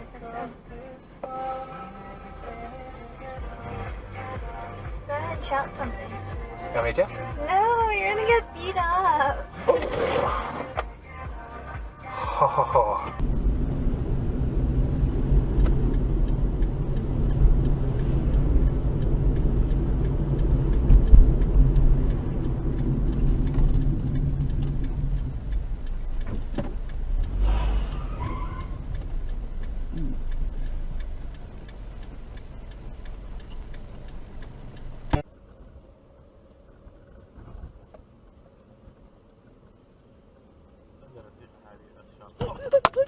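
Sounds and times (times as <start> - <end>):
car engine and road hum: 0.0 - 43.0.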